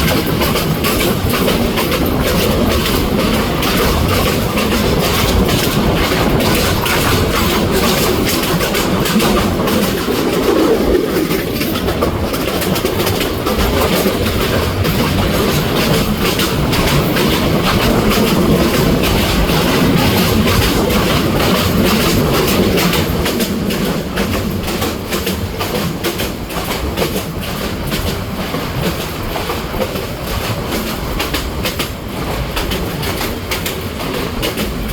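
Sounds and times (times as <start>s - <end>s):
train rumbling: 0.0s - 34.9s
wheels clicking over rail joints: 0.0s - 34.9s.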